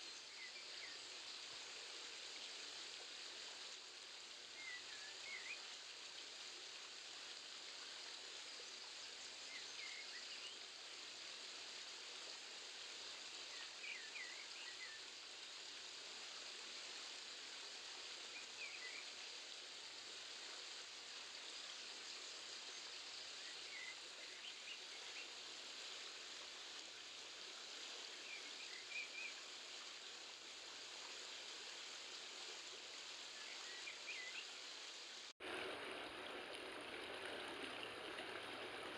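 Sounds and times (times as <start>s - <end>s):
stream water rushing: 0.0s - 8.5s, 9.1s - 38.9s.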